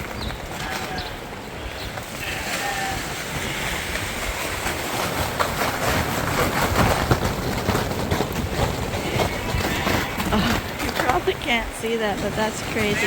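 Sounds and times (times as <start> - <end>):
freezing rain pelting a roof: 0.0 - 13.0.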